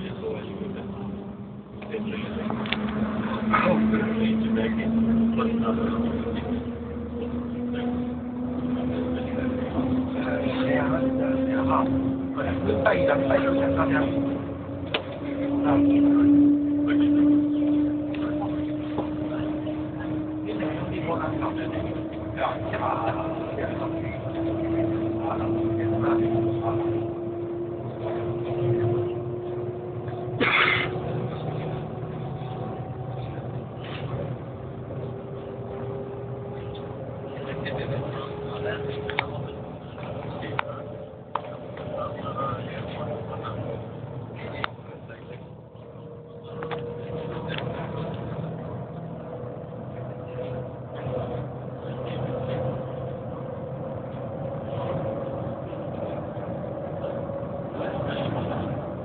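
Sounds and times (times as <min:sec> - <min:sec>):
train cabin low hum: 0:00.0 - 0:59.0.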